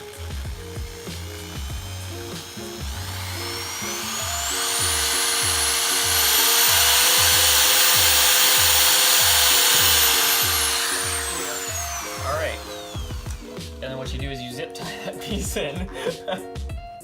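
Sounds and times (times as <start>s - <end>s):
power drill spinning: 0.0s - 14.0s
background music with steady beat: 0.0s - 17.0s.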